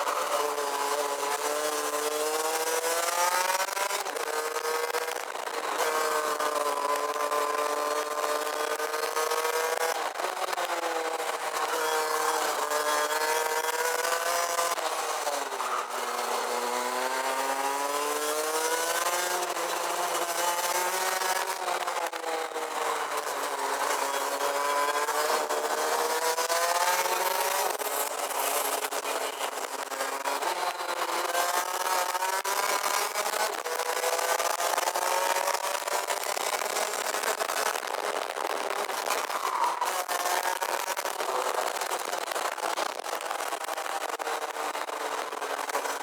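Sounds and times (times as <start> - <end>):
kart engine revving: 0.0 - 46.0.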